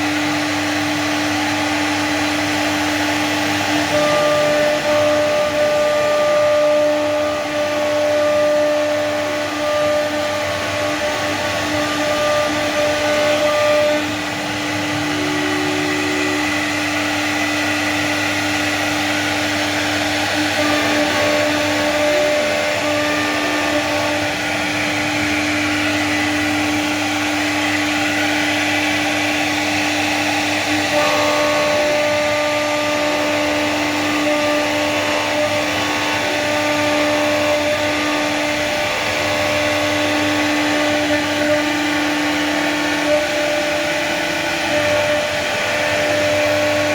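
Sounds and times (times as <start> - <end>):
cnc router spindle whine: 0.0 - 46.9
router cutting noise: 0.0 - 46.9.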